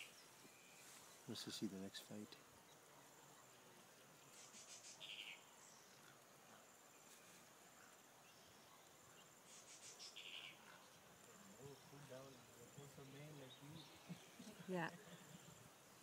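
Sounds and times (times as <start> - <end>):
faint steady high hiss: 0.0 - 16.0.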